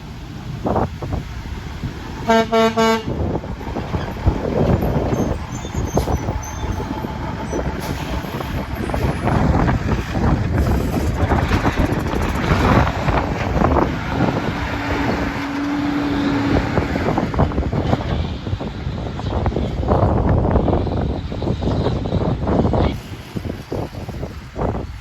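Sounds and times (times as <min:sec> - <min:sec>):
heavy trucks driving past: 0:00.0 - 0:25.0.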